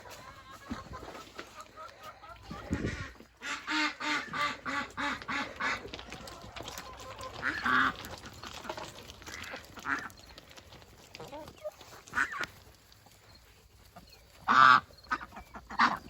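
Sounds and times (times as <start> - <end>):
ducks quacking: 0.0 - 10.4, 11.0 - 12.7, 13.8 - 16.0.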